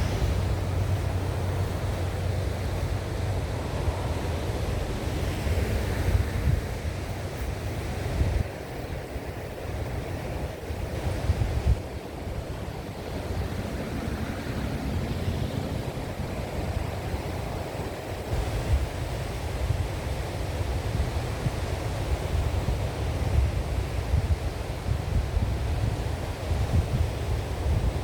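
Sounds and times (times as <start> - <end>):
ocean surf washing in: 0.0 - 28.0
wind buffeting microphone: 0.0 - 28.0.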